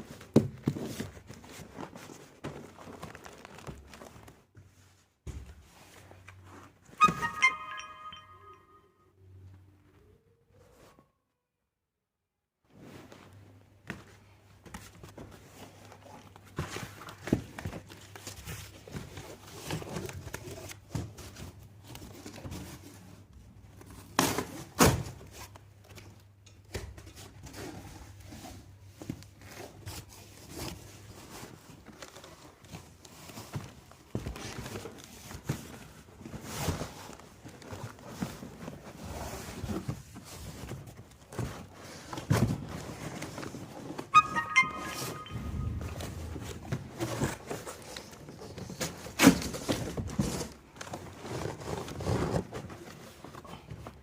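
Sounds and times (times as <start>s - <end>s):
crinkling and rustling: 0.0s - 7.6s, 12.7s - 44.2s, 45.6s - 54.0s.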